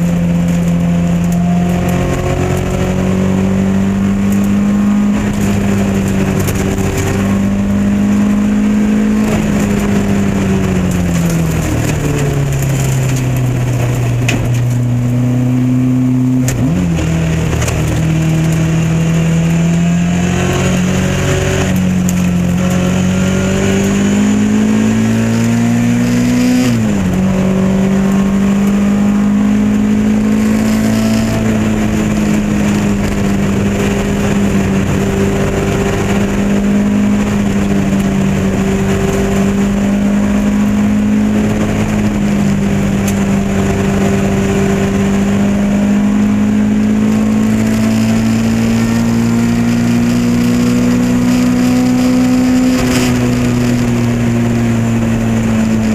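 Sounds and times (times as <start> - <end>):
race car engine at high revs: 0.0 - 55.9.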